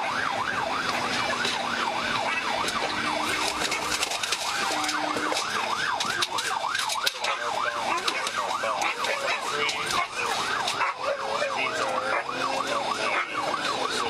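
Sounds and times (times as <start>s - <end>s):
police siren yelp: 0.0s - 14.0s.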